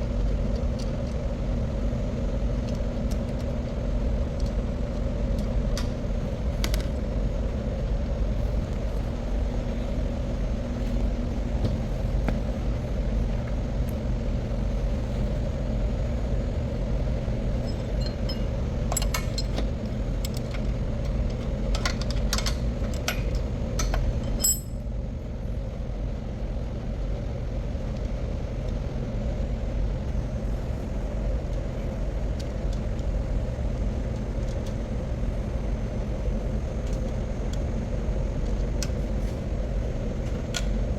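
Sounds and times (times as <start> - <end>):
low machinery hum: 0.0 - 40.9.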